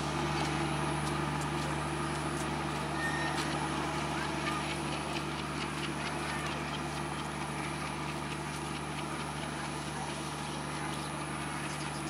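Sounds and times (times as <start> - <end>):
train low drone: 0.0 - 12.0
wheels clacking over rail joints: 0.0 - 12.0.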